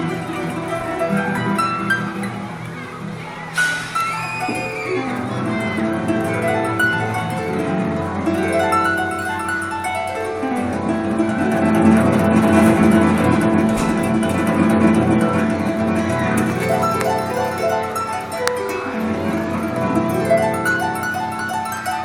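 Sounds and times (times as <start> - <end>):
solo harp playing: 0.0 - 22.0.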